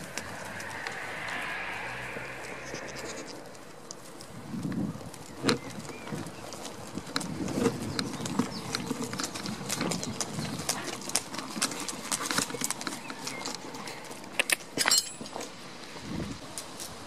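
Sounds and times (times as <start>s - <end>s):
goat hooves on asphalt: 0.0s - 17.0s.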